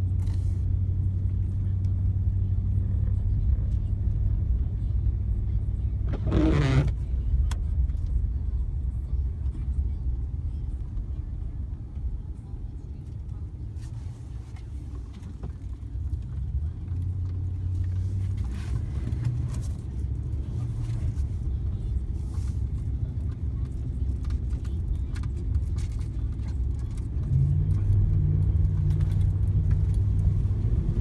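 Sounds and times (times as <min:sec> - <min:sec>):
engine and road drone: 0:00.0 - 0:31.0.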